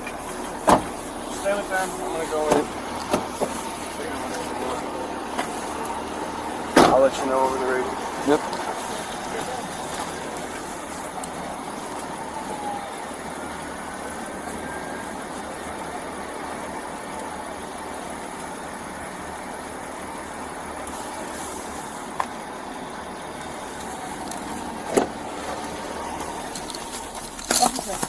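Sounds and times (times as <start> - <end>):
traffic noise: 0.0 - 28.0
vehicle engine idling: 0.0 - 28.0.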